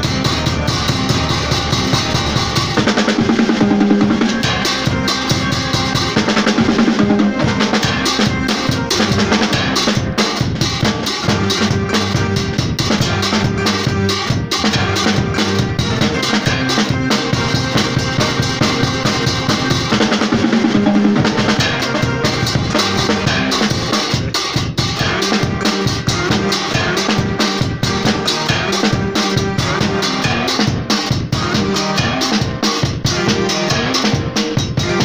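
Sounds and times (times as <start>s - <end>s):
drum kit playing: 0.0s - 35.0s
electronic keyboard chords: 0.0s - 35.0s.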